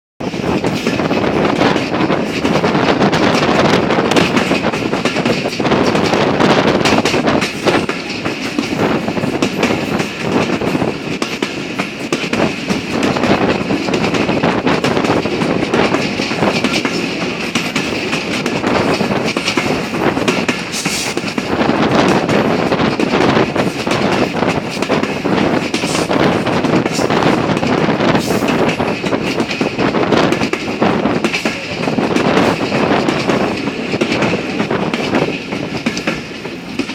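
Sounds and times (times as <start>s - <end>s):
train rumbling on track: 0.2s - 36.9s
wheels clicking over rails: 0.2s - 36.9s.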